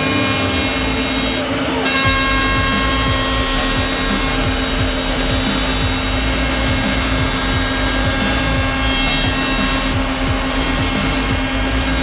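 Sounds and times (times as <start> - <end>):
mortising machine whine: 0.0 - 12.0.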